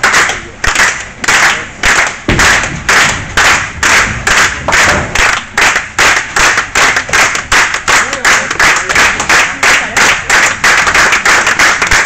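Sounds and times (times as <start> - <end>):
hands clapping slowly: 0.0 - 12.0.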